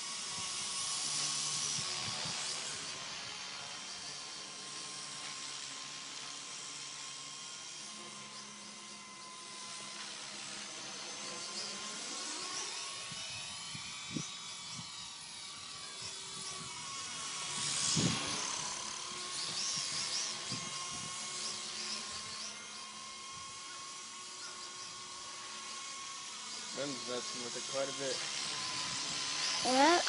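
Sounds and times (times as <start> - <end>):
electric motor whining: 0.0 - 30.0
helicopter rotor spinning: 0.0 - 30.0.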